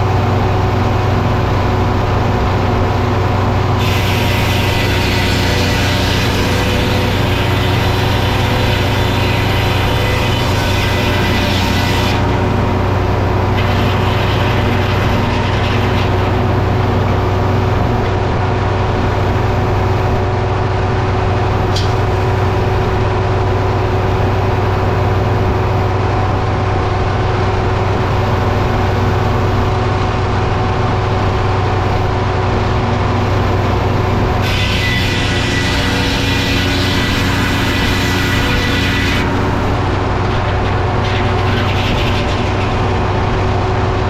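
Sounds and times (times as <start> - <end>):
heavy engine humming: 0.0 - 44.0.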